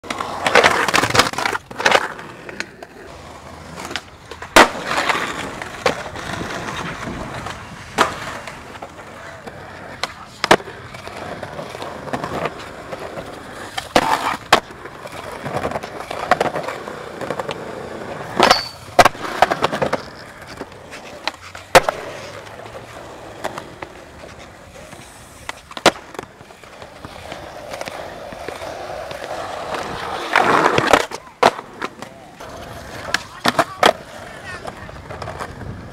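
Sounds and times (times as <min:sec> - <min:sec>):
skateboard tail clacks: 0:00.0 - 0:35.9
skateboard wheels rolling on concrete: 0:00.0 - 0:35.9.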